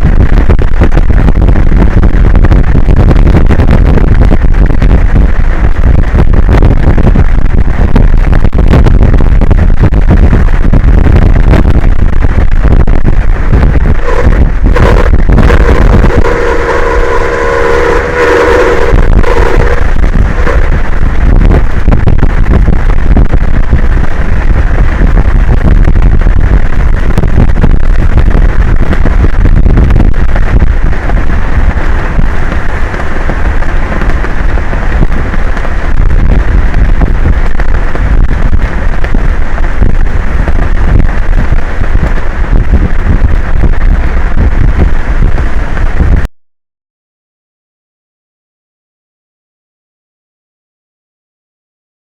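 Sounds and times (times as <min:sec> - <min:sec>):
strong wind buffeting microphone: 0:00.0 - 0:46.3.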